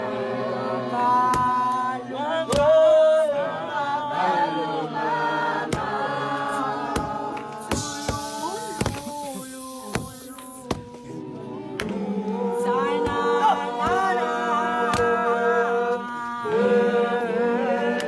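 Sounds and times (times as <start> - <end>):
group singing a cappella chant: 0.0 - 18.0.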